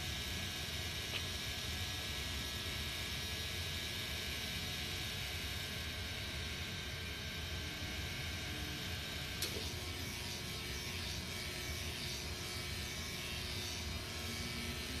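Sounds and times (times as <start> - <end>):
electric shaver running: 0.0 - 15.0.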